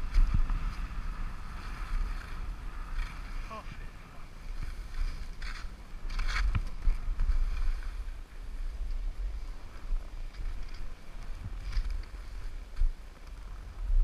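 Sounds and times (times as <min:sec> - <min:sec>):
skis hissing over snow: 0:00.0 - 0:13.8
wind rumble on microphone: 0:00.0 - 0:14.0.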